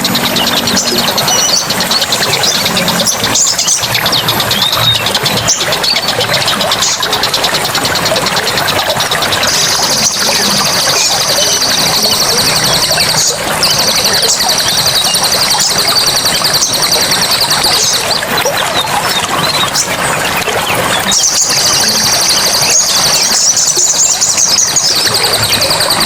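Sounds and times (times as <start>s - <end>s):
high buzzing trills: 0.0s - 26.0s
running water: 0.0s - 26.0s.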